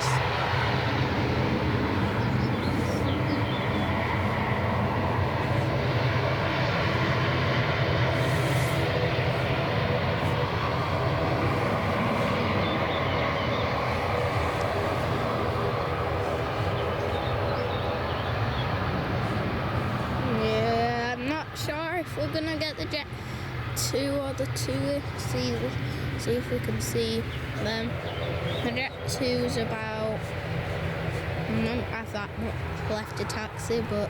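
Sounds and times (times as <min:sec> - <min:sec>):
aircraft engines droning: 0:00.0 - 0:34.0.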